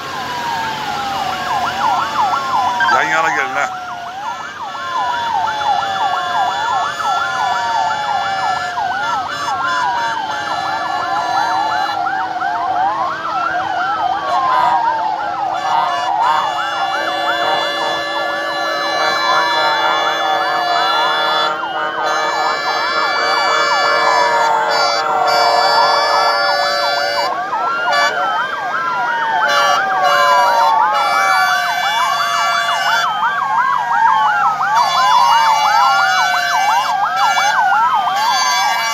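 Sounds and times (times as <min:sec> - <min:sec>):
sirens wailing: 0:00.0 - 0:38.9.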